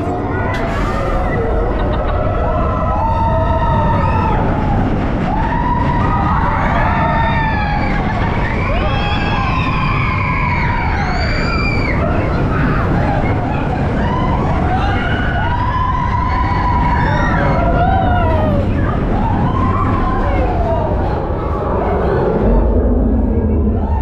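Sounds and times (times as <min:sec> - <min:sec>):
roller coaster train rumble: 0:00.0 - 0:24.0
rushing wind: 0:00.0 - 0:24.0
riders screaming and whooping: 0:00.1 - 0:24.0.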